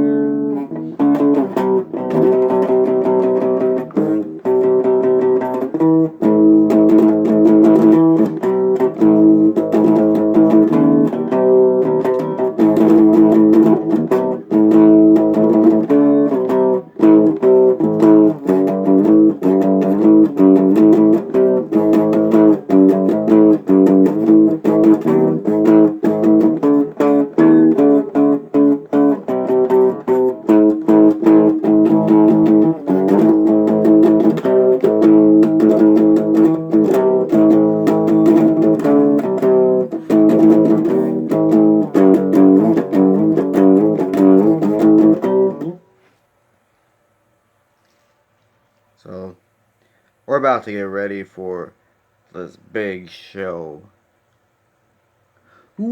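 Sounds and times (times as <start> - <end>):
guitar picking and strumming: 0.0 - 46.2.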